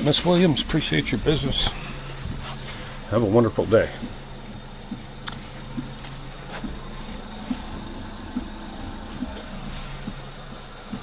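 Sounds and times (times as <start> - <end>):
car engine running: 0.0 - 11.0
soft low repeating beat: 0.0 - 11.0.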